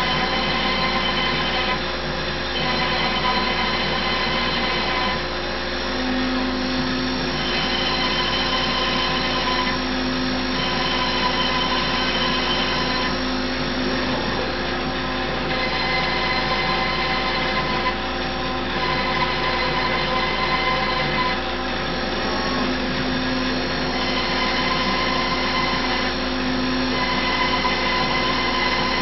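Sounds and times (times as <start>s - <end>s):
router spindle running: 0.0s - 29.0s.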